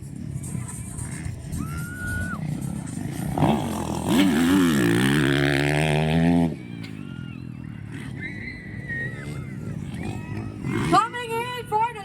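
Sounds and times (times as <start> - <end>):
dirt bike engine revving: 0.2 - 7.1, 7.7 - 11.9.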